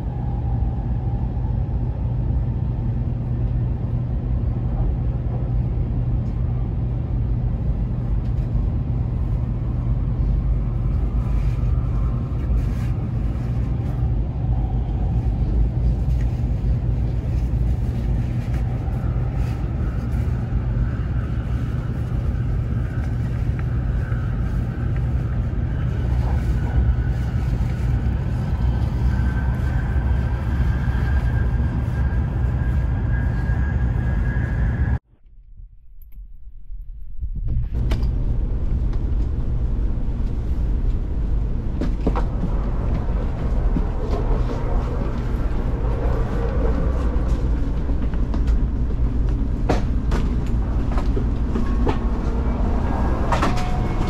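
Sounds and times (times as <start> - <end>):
train rumbling: 0.0 - 54.0
faint rising whine: 7.4 - 54.0.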